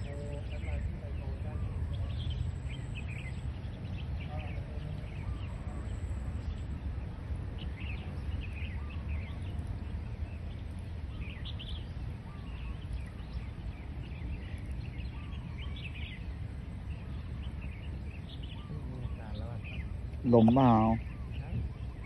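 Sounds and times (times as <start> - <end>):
birds chirping and calling: 0.0 - 22.0
steady low rumble: 0.0 - 22.0.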